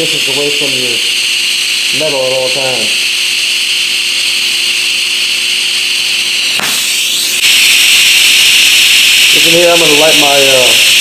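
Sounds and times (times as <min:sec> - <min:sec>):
welding arc hissing and buzzing: 0:00.0 - 0:11.0
welding arc crackle: 0:01.9 - 0:11.0.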